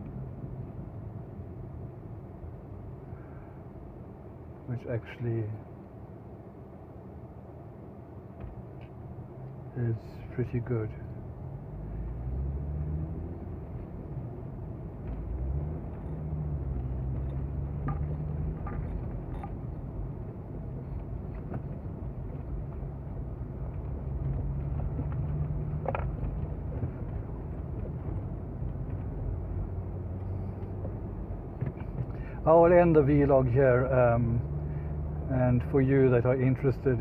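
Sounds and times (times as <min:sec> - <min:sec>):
car engine while driving: 0:00.0 - 0:37.0
road noise: 0:00.0 - 0:37.0.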